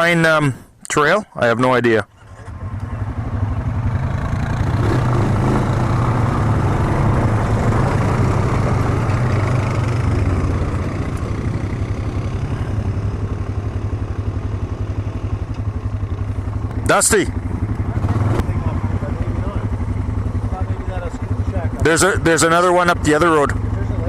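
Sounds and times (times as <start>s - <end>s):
quad bike engine running: 2.1s - 24.0s.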